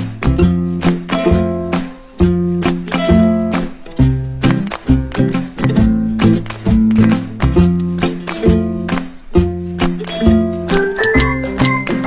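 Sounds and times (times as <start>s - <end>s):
background music with regular beat: 0.0s - 12.0s.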